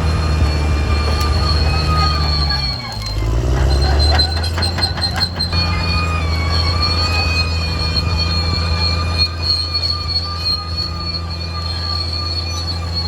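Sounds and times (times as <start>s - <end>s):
diesel engine running: 0.0s - 13.0s
track undercarriage squeal: 0.0s - 13.0s.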